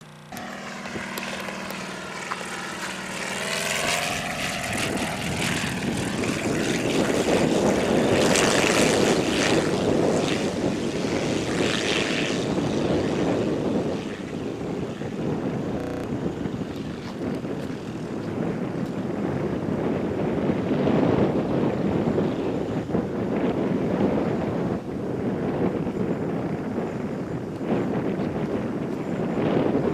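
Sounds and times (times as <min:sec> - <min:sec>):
propeller engine: 0:00.0 - 0:29.9.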